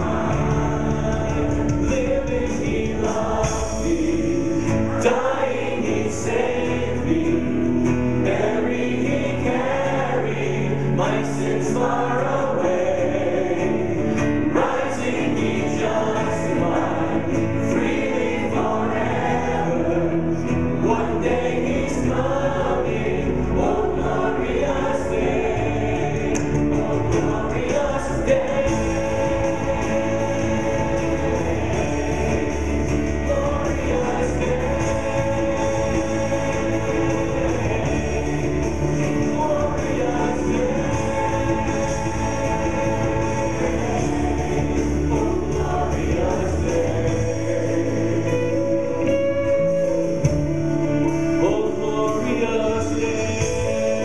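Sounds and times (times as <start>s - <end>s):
choir singing gospel song: 0.0s - 54.0s
live band guitars drums piano: 0.0s - 54.0s.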